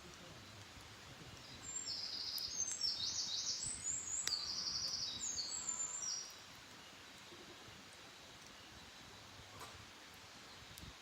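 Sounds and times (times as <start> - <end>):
songbird singing: 0.0 - 9.5.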